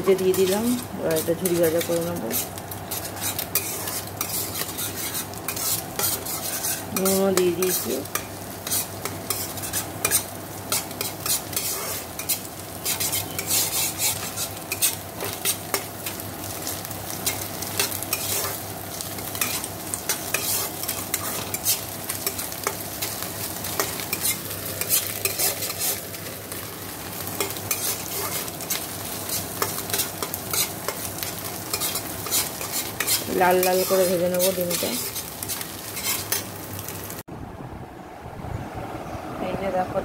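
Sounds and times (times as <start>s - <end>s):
oil sizzling: 0.0s - 37.3s
spatula scraping a pan: 0.1s - 18.6s, 19.2s - 26.1s, 27.1s - 36.5s.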